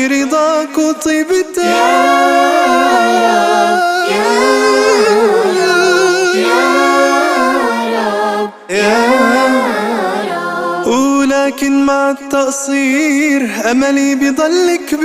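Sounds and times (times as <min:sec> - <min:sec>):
wordless a cappella humming: 0:00.0 - 0:15.0.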